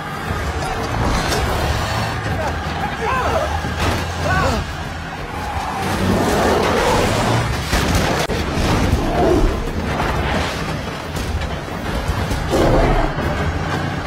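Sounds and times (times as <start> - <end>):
heavy crashing and booming: 0.0 - 14.0.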